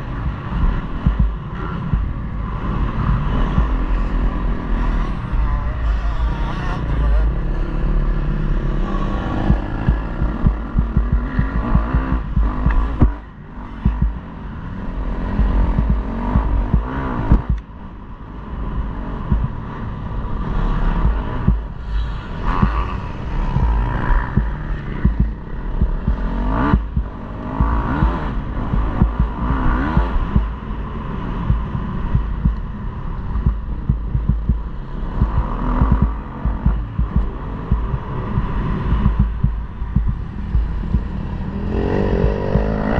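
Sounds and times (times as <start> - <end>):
motocross bike engine revving: 0.0 - 17.6, 20.4 - 32.6, 33.4 - 42.9
heavy low rumbling: 0.0 - 42.9.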